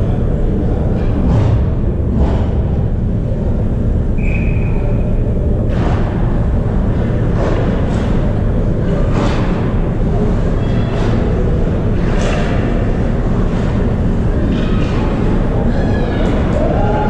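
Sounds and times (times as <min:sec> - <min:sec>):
low rink rumble: 0:00.0 - 0:17.0.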